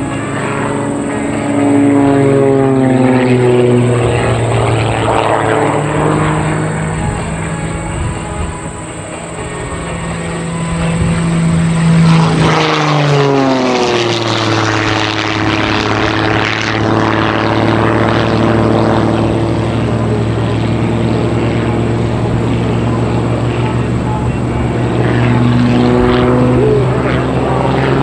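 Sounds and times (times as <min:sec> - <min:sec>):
propeller plane flying past: 0:00.0 - 0:28.0.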